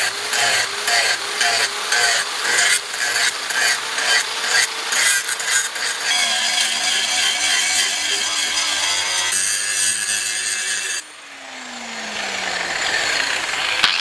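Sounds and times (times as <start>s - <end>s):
angle grinder grinding steel: 0.0s - 14.0s.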